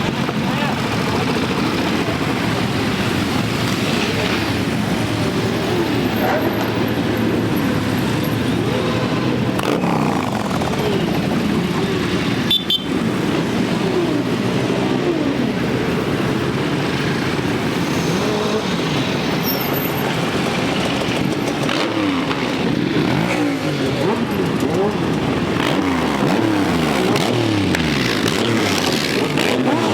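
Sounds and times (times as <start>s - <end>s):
motorcycles revving past: 0.1s - 19.4s, 20.0s - 29.9s.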